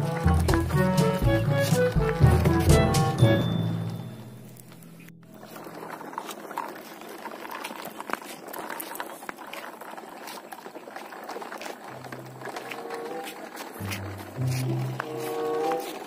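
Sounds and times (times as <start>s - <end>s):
toy truck wheels on paving: 0.0s - 3.3s, 4.6s - 16.0s.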